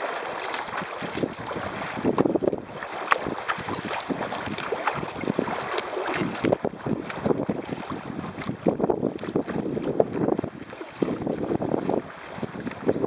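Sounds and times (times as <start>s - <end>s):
water splashing against hull: 0.0s - 13.0s
wind buffeting microphone: 0.4s - 13.0s.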